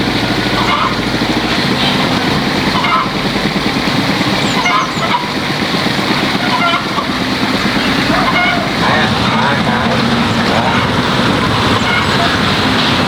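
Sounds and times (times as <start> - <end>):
chickens calling: 0.0 - 13.0
engine running: 0.0 - 13.0.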